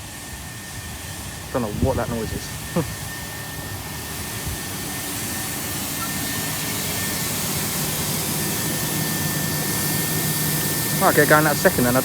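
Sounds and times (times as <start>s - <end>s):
thin high whine: 0.0s - 12.0s
train hiss: 0.0s - 12.0s.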